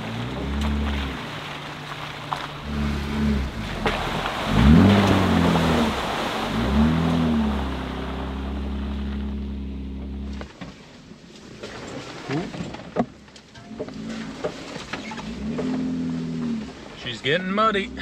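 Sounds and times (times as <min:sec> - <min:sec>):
car engine revving: 0:00.0 - 0:10.5, 0:13.8 - 0:18.0
tires splashing through mud: 0:00.0 - 0:18.0.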